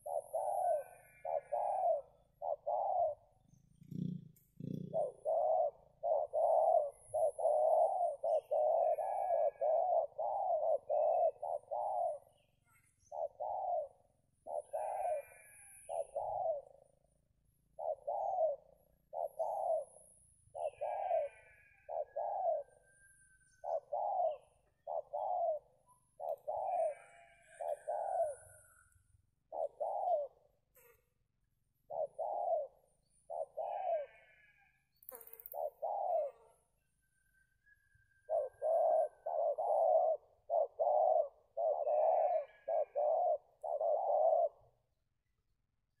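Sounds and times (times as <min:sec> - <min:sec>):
dove cooing: 0:00.0 - 0:30.9, 0:31.5 - 0:36.8, 0:37.4 - 0:46.0
small birds chirping faintly: 0:00.0 - 0:46.0.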